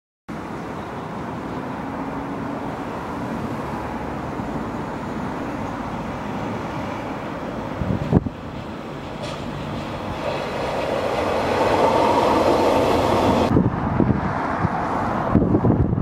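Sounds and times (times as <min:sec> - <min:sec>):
train diesel engine rumble: 0:00.3 - 0:15.3
wheels on the track: 0:00.4 - 0:16.0.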